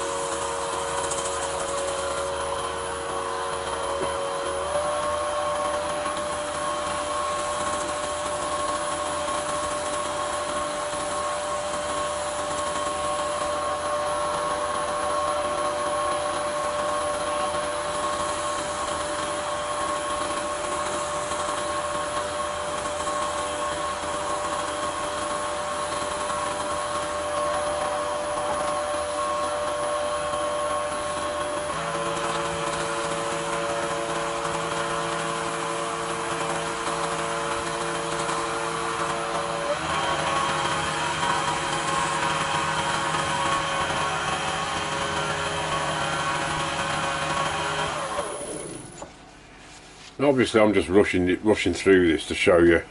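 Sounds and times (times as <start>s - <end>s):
lathe motor humming and whining: 0.0s - 49.9s.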